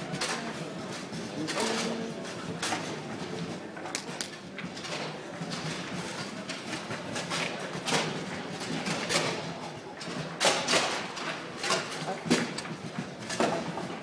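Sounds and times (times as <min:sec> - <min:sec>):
low hall murmur: 0:00.0 - 0:14.0.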